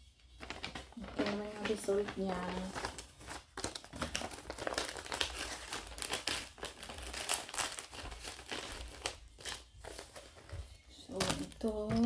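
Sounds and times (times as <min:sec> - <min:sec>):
paper rustling: 0:00.2 - 0:12.0.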